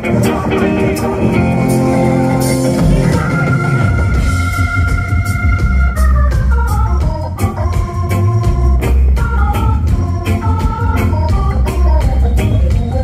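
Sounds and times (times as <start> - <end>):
live band playing: 0.0 - 13.0
organ holding chords: 0.0 - 13.0.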